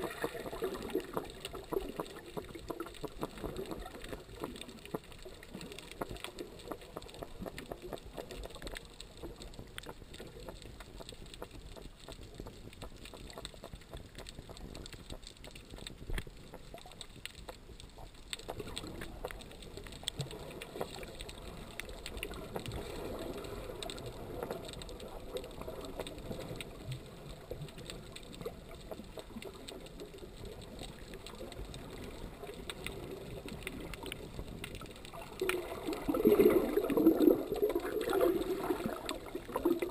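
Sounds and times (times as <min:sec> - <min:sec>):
muffled underwater water wash: 0:00.0 - 0:39.9
small underwater clicks: 0:00.0 - 0:39.9.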